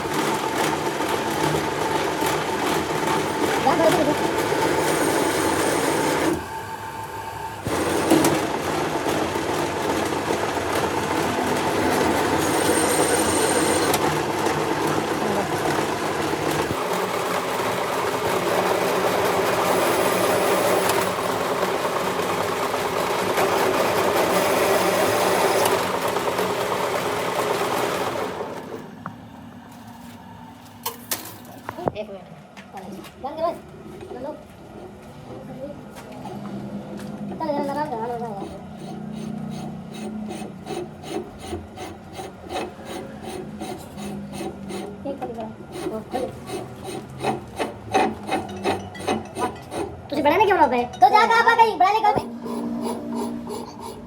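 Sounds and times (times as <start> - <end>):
workshop machine running: 0.0 - 54.0.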